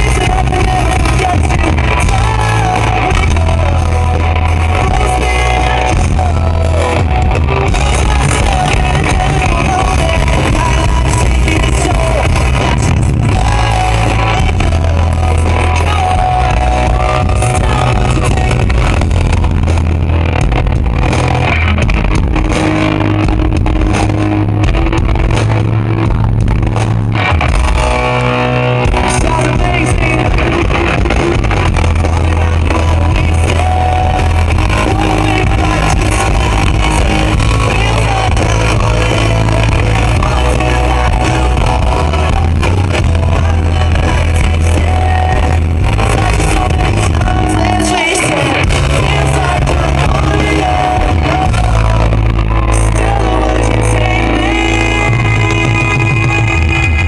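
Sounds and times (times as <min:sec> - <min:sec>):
live pop-punk band: 0:00.0 - 0:57.0.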